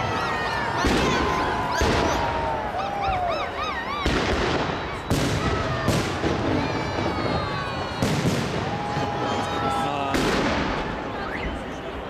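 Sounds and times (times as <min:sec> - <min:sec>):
firework bangs: 0:00.0 - 0:02.7, 0:03.9 - 0:11.6.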